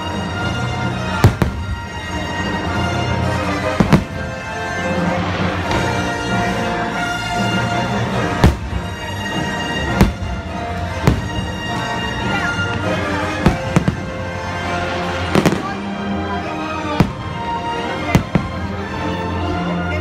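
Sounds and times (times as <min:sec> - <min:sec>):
loud orchestral music: 0:00.0 - 0:20.0.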